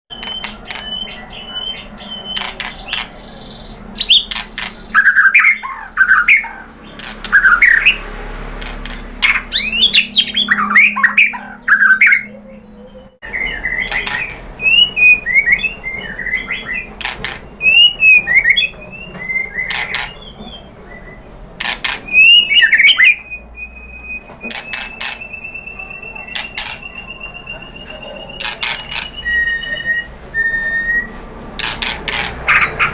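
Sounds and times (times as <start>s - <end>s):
bird singing whistled phrases: 0.1s - 2.5s, 3.2s - 8.0s, 9.2s - 16.9s, 17.5s - 21.3s, 22.1s - 31.2s.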